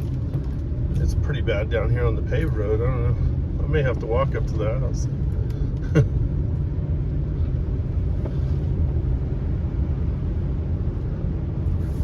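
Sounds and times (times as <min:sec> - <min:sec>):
truck engine and tyres rumbling: 0:00.0 - 0:12.0.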